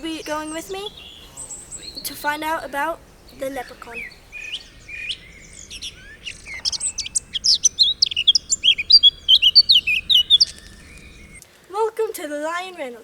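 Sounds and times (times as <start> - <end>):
birds chirping and singing: 0.0 - 11.4.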